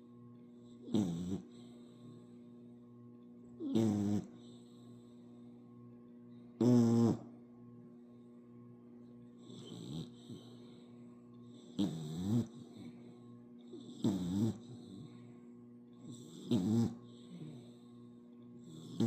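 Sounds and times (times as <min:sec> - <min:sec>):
puppy snoring: 0:00.0 - 0:02.8, 0:03.6 - 0:05.6, 0:06.6 - 0:07.4, 0:09.3 - 0:19.0.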